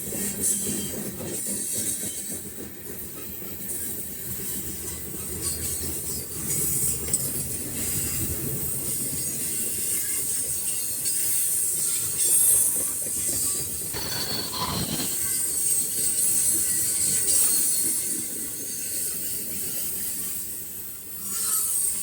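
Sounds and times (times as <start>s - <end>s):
rumble of train wheels on rail: 0.0s - 22.0s
wheel squeal and hiss: 0.0s - 22.0s.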